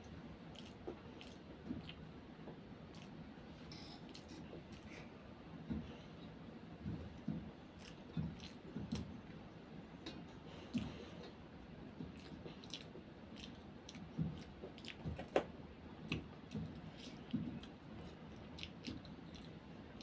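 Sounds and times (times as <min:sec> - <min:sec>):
child chewing: 0:00.4 - 0:15.4, 0:16.0 - 0:20.0.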